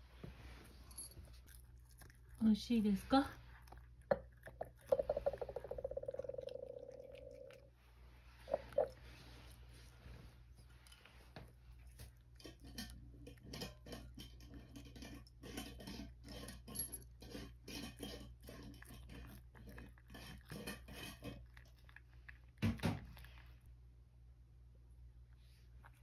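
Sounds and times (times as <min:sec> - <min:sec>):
cat chewing crunchy fish: 0:01.2 - 0:23.7.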